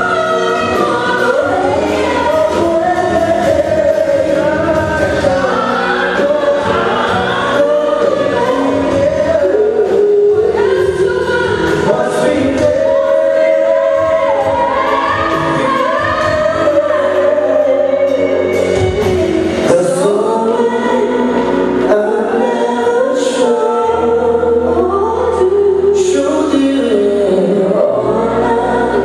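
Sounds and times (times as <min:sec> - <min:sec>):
live band music: 0:00.0 - 0:29.0
voices singing together: 0:00.0 - 0:29.0.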